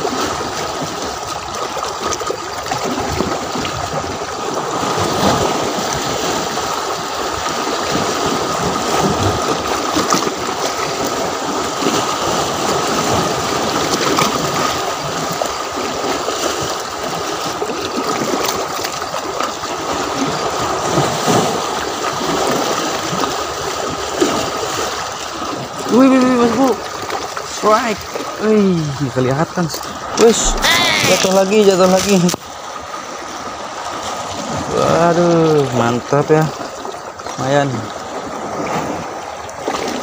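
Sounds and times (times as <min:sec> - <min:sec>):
seawater washing around rocks: 0:00.0 - 0:40.0.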